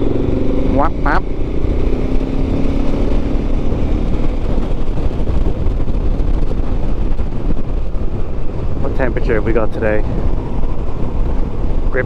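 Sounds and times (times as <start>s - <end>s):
motorcycle engine: 0.0s - 12.0s
wind and road noise: 0.0s - 12.0s.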